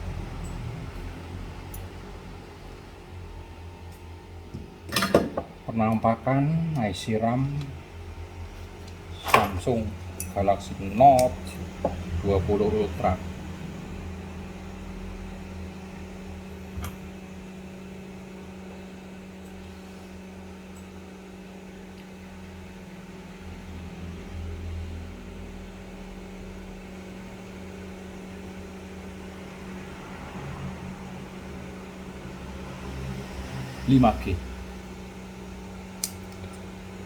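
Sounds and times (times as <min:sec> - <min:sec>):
small fan humming: 0:00.0 - 0:37.0.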